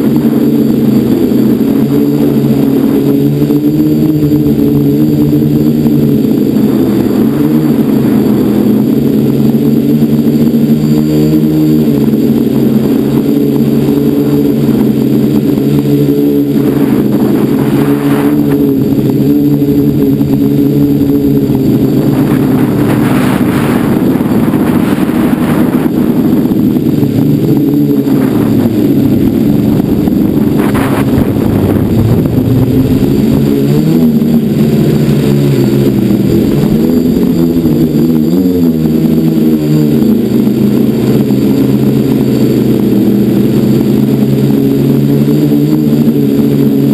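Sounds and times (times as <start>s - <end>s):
drone propellers whining: 0.0s - 46.9s
wind noise rushes: 0.0s - 46.9s.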